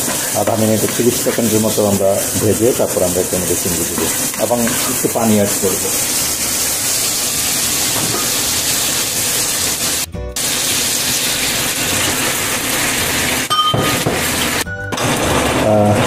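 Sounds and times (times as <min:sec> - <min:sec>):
gravy sizzling in frying pan: 0:00.0 - 0:15.6.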